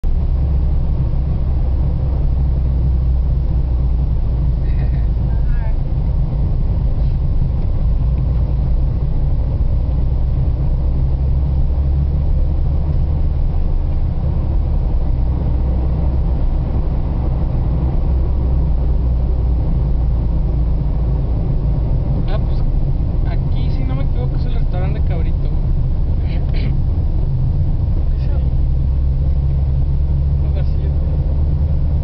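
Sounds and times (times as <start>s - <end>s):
car interior road rumble: 0.0s - 32.0s.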